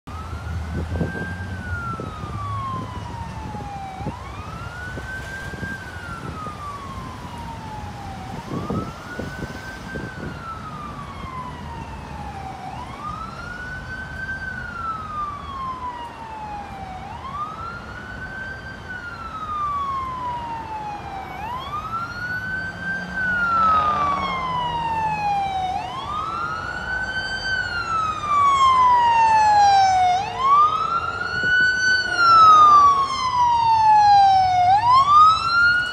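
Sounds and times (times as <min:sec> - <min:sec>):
ambulance wail siren: 0:00.1 - 0:35.9.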